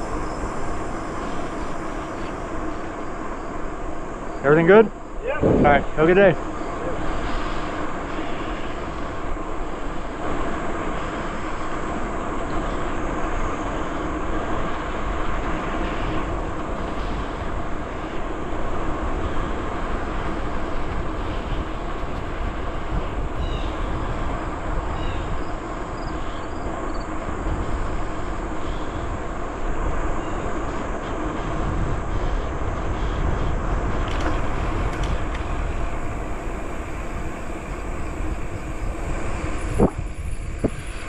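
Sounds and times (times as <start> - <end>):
bike rolling on trail: 0.0 - 41.0
wind on microphone: 5.2 - 41.0.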